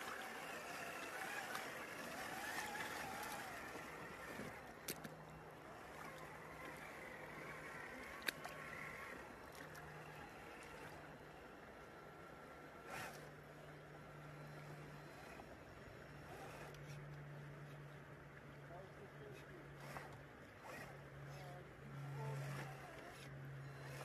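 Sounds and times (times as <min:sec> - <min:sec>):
flowing river water: 0:00.0 - 0:24.0
low steady hum: 0:00.0 - 0:24.0.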